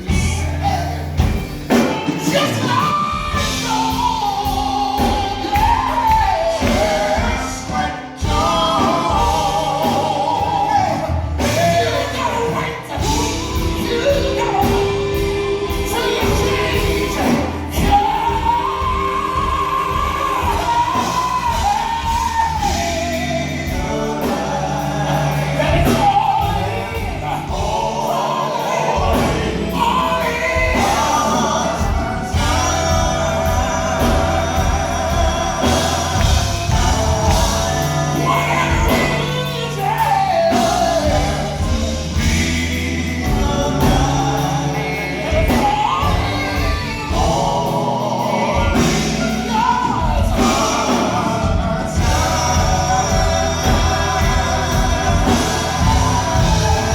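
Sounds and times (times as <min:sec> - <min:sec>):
choir singing: 0:00.0 - 0:56.9
instrumental backing with bass: 0:00.0 - 0:56.9.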